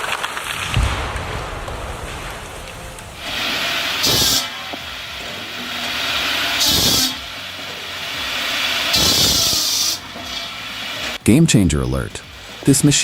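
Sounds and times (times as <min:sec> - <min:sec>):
loud hissing bursts: 0:00.0 - 0:13.0
wood-processing machinery running: 0:00.0 - 0:13.0.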